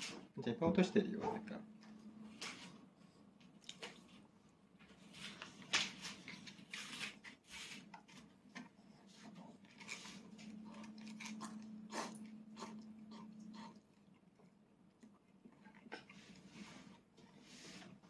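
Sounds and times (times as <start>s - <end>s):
faint low hum: 0.1s - 18.0s
soft chewing: 1.2s - 18.0s.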